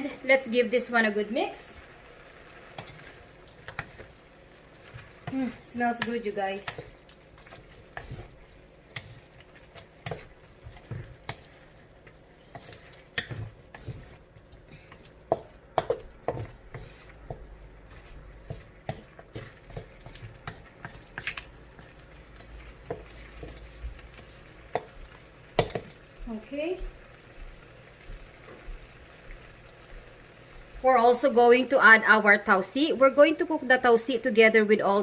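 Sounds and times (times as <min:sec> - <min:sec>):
utensil stirring food in pot: 0:00.5 - 0:31.3.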